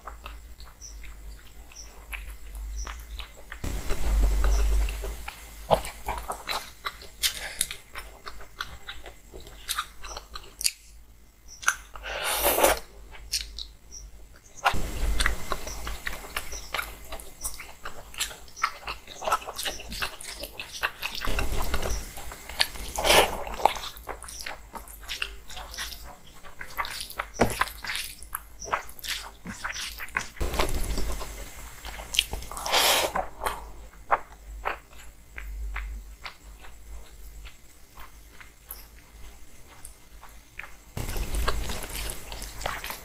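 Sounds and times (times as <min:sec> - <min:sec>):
person chewing food: 0:00.0 - 0:03.7, 0:04.3 - 0:11.0, 0:14.6 - 0:43.0.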